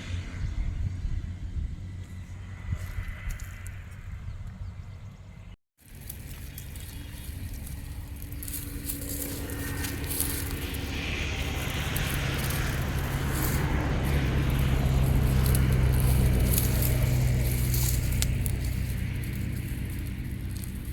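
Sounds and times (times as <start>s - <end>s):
vehicle engine running: 0.0s - 20.9s.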